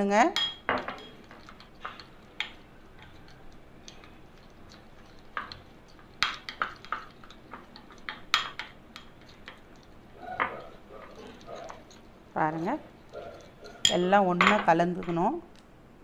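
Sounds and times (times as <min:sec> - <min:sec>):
spoon clinking and scraping glass: 0:00.4 - 0:14.7.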